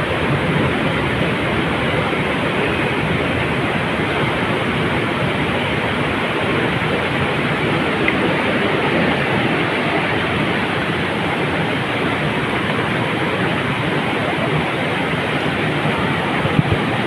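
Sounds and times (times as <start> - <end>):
water rushing down cascade: 0.0 - 17.0.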